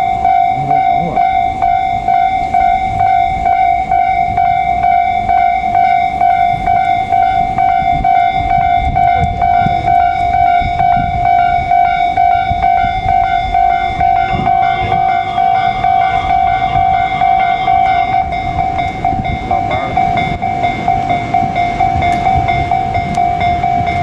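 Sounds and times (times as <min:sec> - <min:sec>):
level crossing bell dinging: 0:00.0 - 0:24.0.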